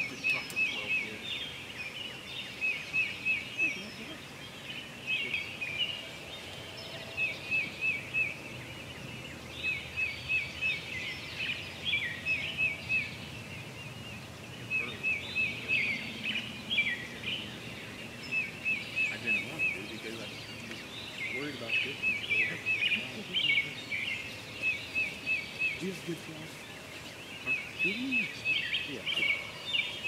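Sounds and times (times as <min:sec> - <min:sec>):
other bird calls: 0:00.0 - 0:30.0.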